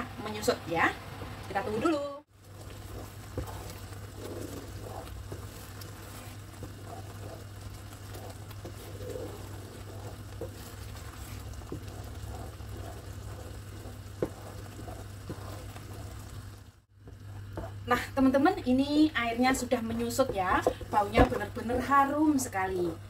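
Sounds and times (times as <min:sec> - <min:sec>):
steady low hum: 0:00.0 - 0:23.0
wooden spatula stirring: 0:00.2 - 0:23.0
thick sauce bubbling in a wok: 0:01.0 - 0:22.5.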